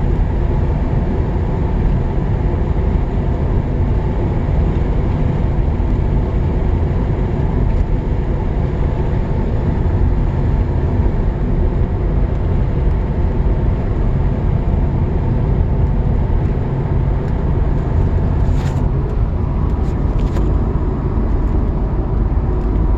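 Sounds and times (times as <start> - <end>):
car engine droning: 0.0 - 22.9
road rumble: 0.0 - 22.9.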